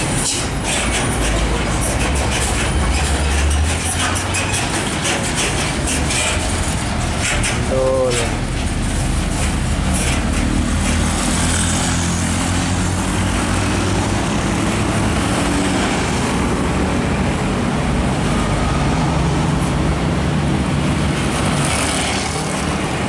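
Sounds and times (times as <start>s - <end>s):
passing road traffic: 0.0s - 23.0s
truck diesel engine under load: 0.0s - 23.0s.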